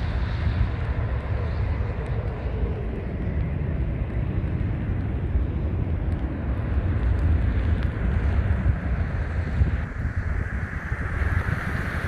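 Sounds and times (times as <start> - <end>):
distant jet engine: 0.0 - 12.0
wind buffeting microphone: 0.0 - 12.0.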